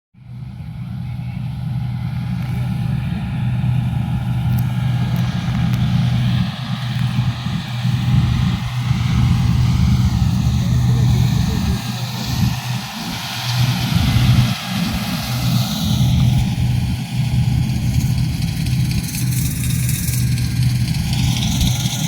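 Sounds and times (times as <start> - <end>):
harvester engine droning: 0.2 - 22.0.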